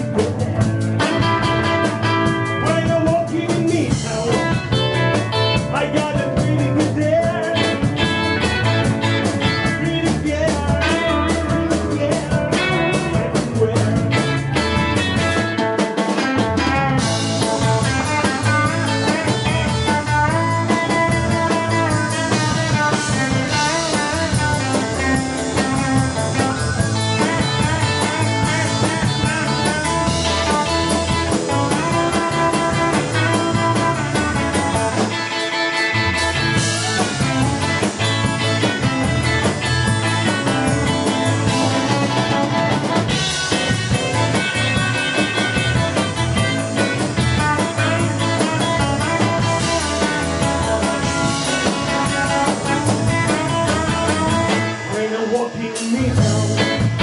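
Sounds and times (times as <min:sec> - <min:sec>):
drum kit: 0:00.0 - 0:57.0
electric bass: 0:00.0 - 0:57.0
electric guitars: 0:00.0 - 0:57.0.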